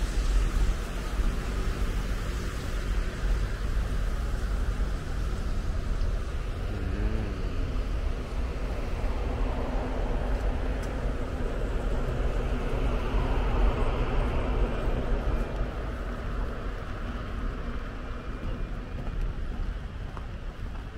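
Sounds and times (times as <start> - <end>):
road traffic on wet street: 0.0 - 20.9.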